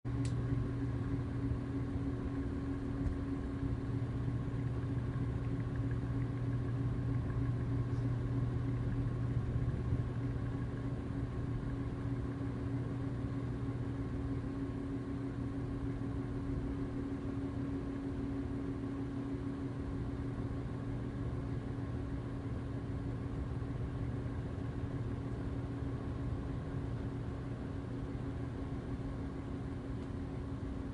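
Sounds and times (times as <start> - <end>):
ceiling fan motor humming: 0.0 - 30.9.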